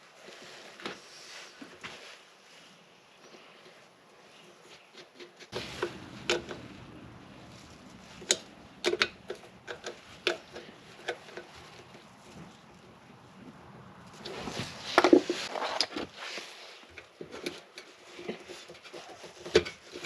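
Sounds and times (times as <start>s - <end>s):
low steady background noise: 0.0s - 20.0s.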